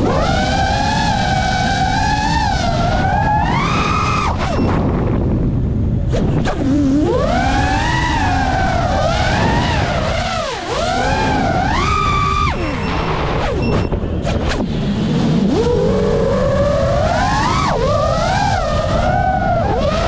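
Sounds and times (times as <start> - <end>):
drone motors whining: 0.0 - 20.0
prop wash and wind rush: 0.0 - 20.0.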